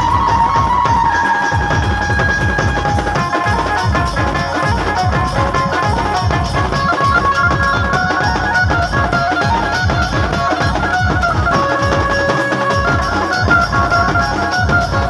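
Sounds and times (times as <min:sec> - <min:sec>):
electronic drum-pad thuds: 0:00.0 - 0:15.0.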